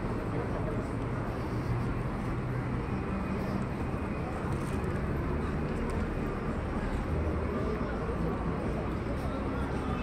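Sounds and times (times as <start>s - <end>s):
faint voices: 0.0s - 10.0s
traffic hum: 0.0s - 10.0s.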